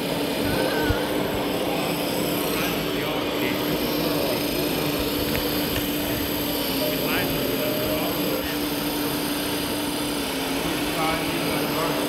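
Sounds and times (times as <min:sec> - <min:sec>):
crowd chatter: 0:00.0 - 0:12.0
hydraulic pump humming: 0:00.0 - 0:12.0.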